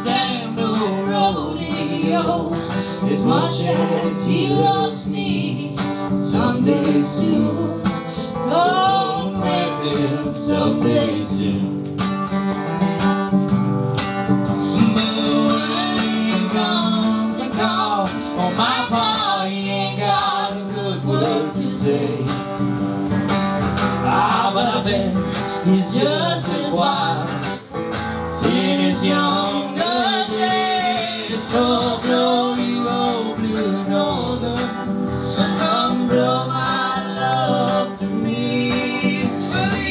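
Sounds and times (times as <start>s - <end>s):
man and woman singing: 0.0s - 11.9s, 14.6s - 22.6s, 24.0s - 39.9s
acoustic guitar strummed: 0.0s - 39.9s.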